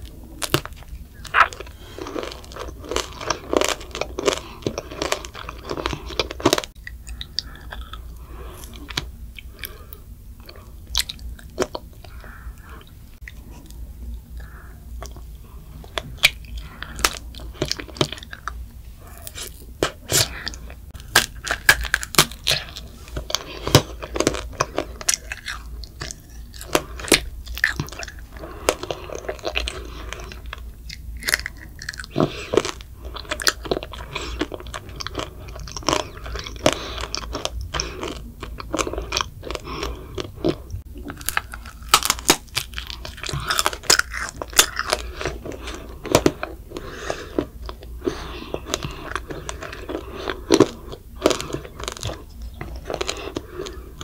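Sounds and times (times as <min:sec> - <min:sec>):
wet chewing: 0:00.0 - 0:54.0
sugar shell crunching: 0:00.1 - 0:54.0.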